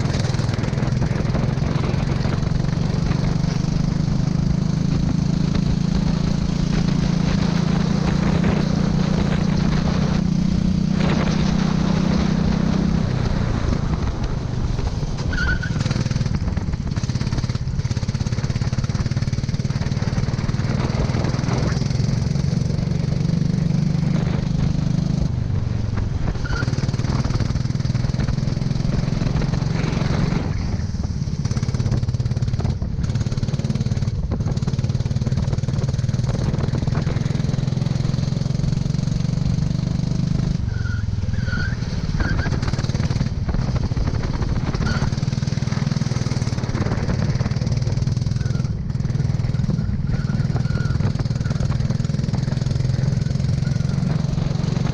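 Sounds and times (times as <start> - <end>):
go-kart engine running hard: 0.0 - 54.9.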